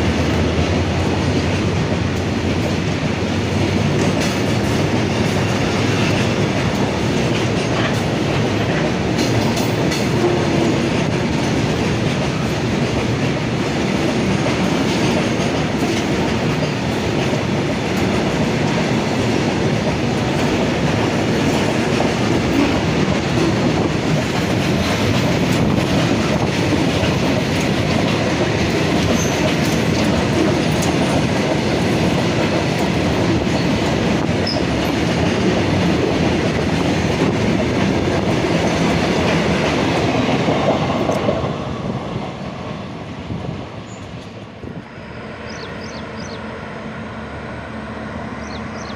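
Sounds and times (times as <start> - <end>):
train wheels running on rails: 0.0 - 48.9.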